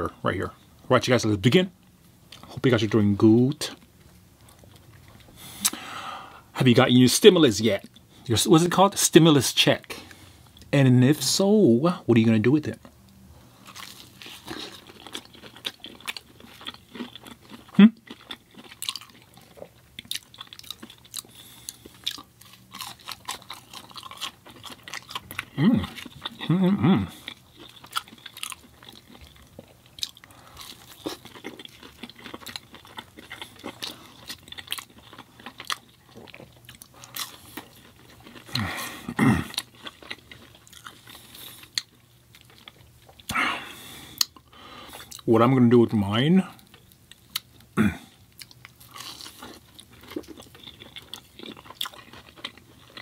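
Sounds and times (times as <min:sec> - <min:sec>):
chewing and crunching food: 0:02.3 - 0:05.8, 0:12.6 - 0:45.3, 0:46.3 - 0:53.0.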